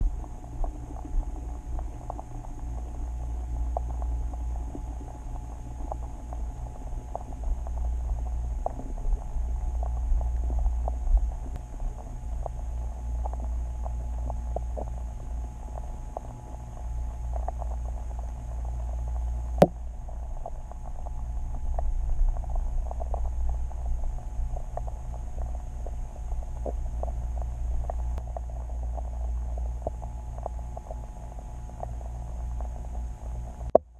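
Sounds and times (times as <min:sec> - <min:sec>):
low underwater rumble: 0:00.0 - 0:33.9
small underwater clicks: 0:00.0 - 0:33.9.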